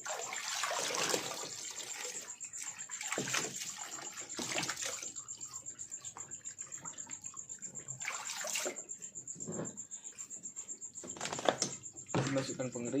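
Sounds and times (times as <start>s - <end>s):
water sloshing and splashing: 0.0s - 12.8s.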